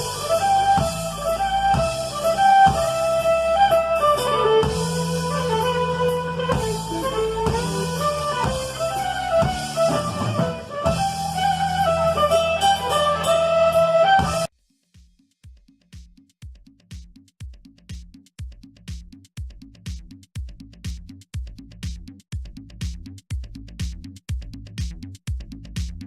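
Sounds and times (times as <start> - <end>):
instrumental music with drum beat: 0.0 - 26.0.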